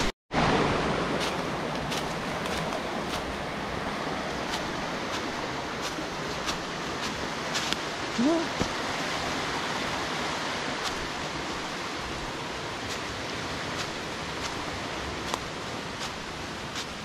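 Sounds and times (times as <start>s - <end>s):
stream rushing over rocks: 0.0s - 17.0s
footsteps on dry leaves: 1.1s - 9.9s, 10.6s - 17.0s.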